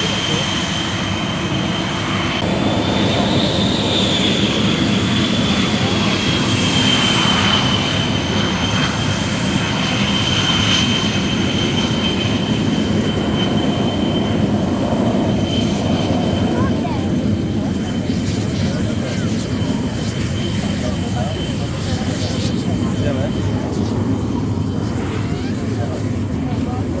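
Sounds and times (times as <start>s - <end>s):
jet engine rush and whine: 0.0s - 27.0s.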